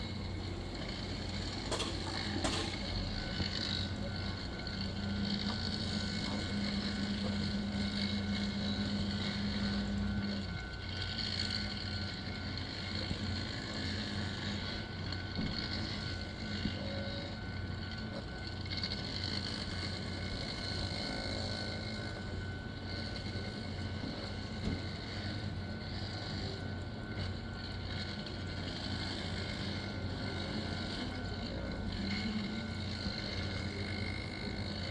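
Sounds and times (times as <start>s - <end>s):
machinery engine hum: 0.0s - 34.9s
thin whine: 0.0s - 34.9s.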